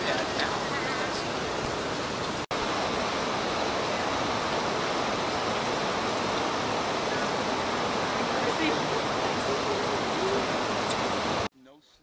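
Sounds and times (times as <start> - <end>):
creek water rushing over rapids: 0.0 - 11.5.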